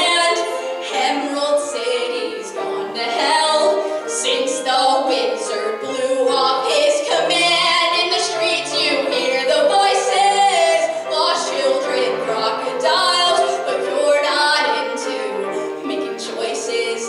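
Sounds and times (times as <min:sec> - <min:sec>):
woman singing into a microphone: 0:00.0 - 0:17.0.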